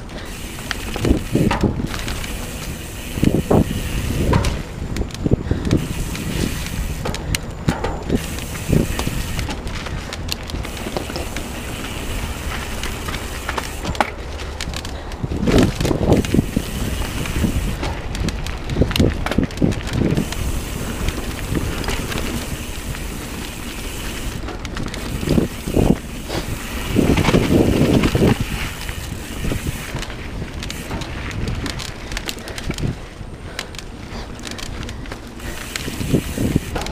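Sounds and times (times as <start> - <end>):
bicycle tyre noise on dirt: 0.0 - 36.9
bike rattling and clattering: 0.0 - 36.9
wind rumble on microphone: 0.0 - 36.9.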